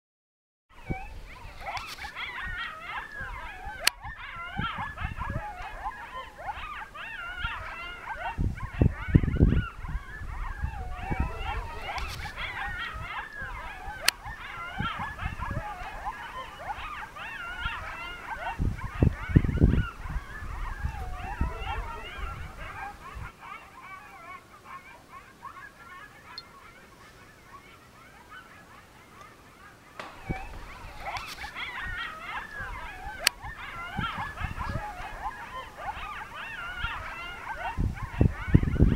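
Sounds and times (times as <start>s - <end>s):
coyotes yipping and howling: 0.8s - 38.9s.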